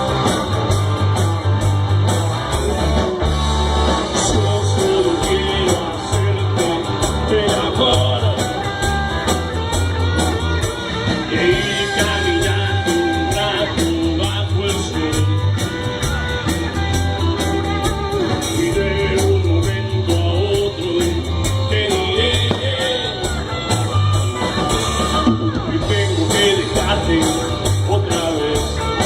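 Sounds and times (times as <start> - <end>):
bass: 0.0 - 29.0
guitar melody: 0.0 - 29.0
steady drum beat: 0.0 - 29.0.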